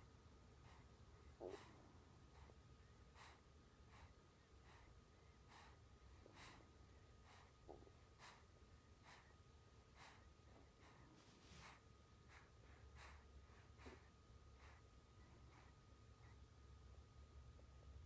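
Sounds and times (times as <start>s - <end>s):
baby breathing softly: 0.5s - 16.6s.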